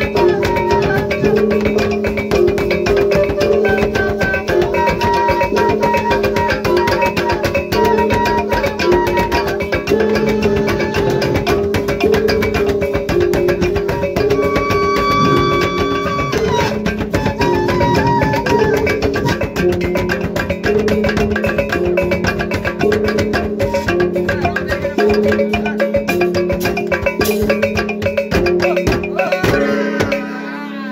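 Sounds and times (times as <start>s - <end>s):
large tuned drums beaten with sticks: 0.0s - 30.3s
held melody line: 0.0s - 30.9s.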